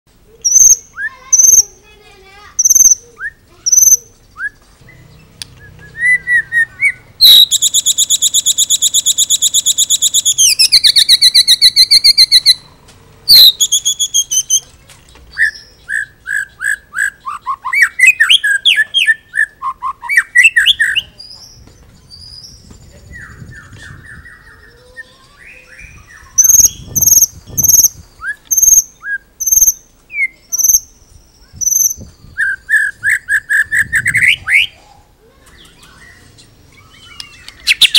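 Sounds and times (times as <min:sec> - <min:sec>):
songbird singing trills and whistles: 0:00.3 - 0:01.8, 0:02.6 - 0:14.7, 0:15.3 - 0:37.9.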